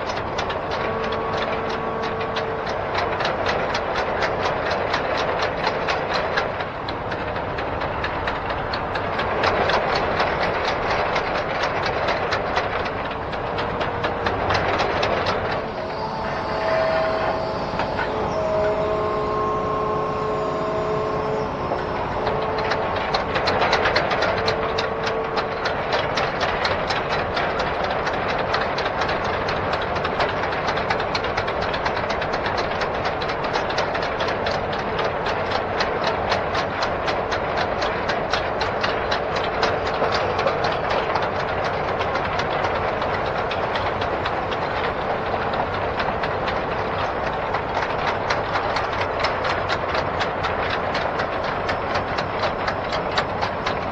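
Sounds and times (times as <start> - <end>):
clatter of track links: 0.0 - 53.9
diesel engine running: 0.0 - 53.9
whining tone: 0.0 - 53.9.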